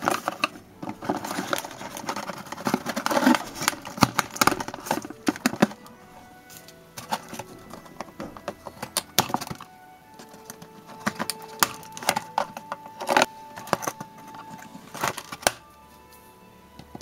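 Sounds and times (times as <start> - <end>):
plastic and cardboard handled: 0.0 - 16.2
background music: 0.0 - 17.0.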